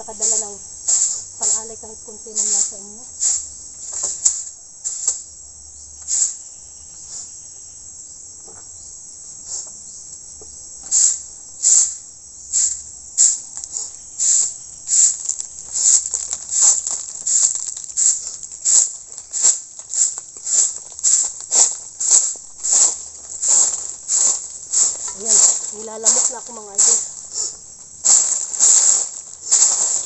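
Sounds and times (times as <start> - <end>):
insects chirping in pulses: 0.0 - 30.0.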